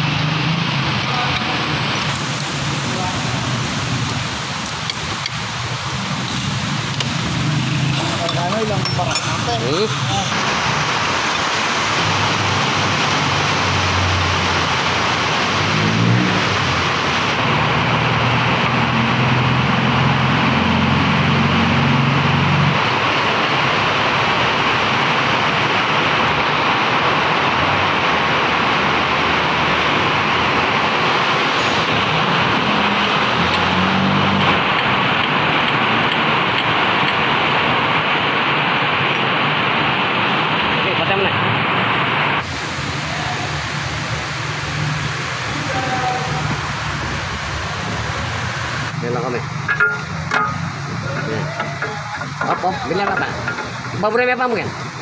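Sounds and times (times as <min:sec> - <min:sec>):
car engine revving: 0:00.0 - 0:55.0
loud steady hiss: 0:00.0 - 0:55.0.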